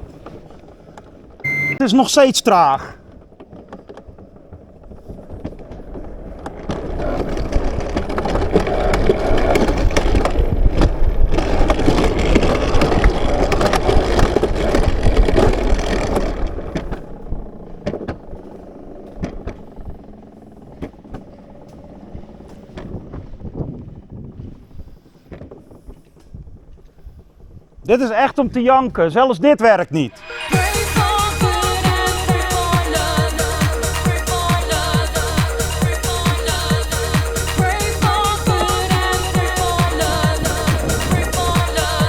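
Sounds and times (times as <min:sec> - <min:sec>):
sled rolling on steel rail: 0:00.0 - 0:29.4, 0:30.2 - 0:42.0.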